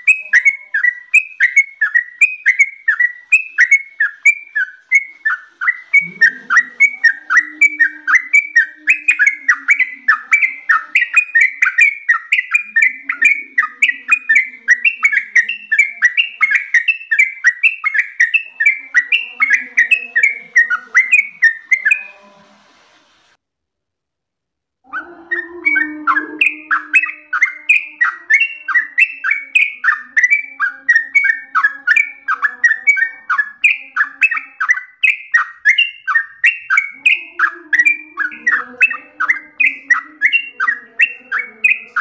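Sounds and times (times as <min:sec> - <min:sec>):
bird singing whistled notes: 0:00.0 - 0:22.3, 0:24.9 - 0:42.0.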